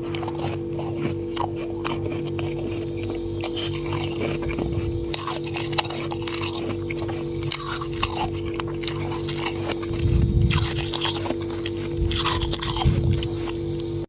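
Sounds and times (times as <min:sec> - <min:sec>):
frost being chewed: 0:00.0 - 0:14.0
steady low hum: 0:00.0 - 0:14.0.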